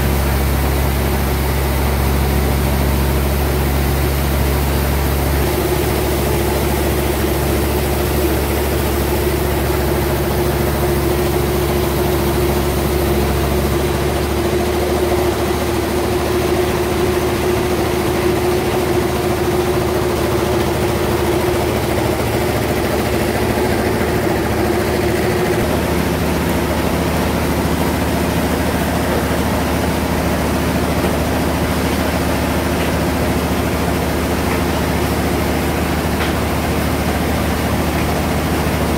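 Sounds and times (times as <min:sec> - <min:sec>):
bandsaw machinery humming: 0:00.0 - 0:38.9.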